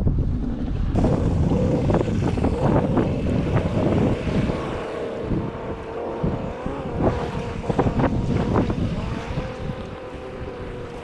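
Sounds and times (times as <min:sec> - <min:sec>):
wind buffeting microphone: 0:00.0 - 0:11.0
jet ski engine running: 0:00.3 - 0:11.0.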